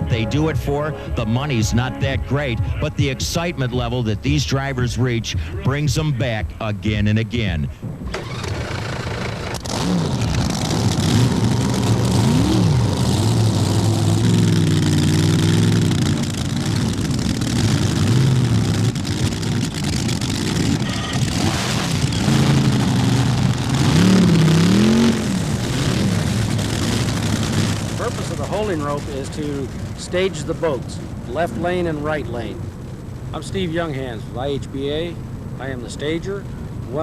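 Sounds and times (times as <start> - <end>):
boat engines revving loudly: 0.0 - 37.0.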